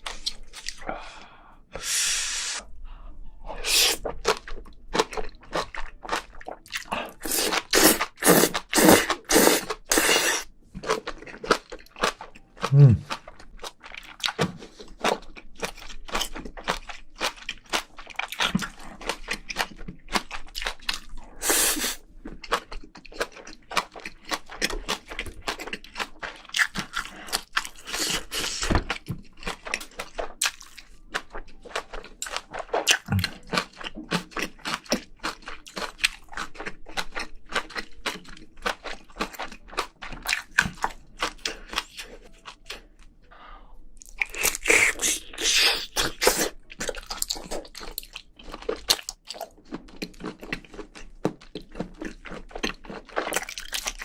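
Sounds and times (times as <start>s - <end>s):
close-miked chewing with crunches: 3.6s - 43.1s, 43.9s - 54.0s.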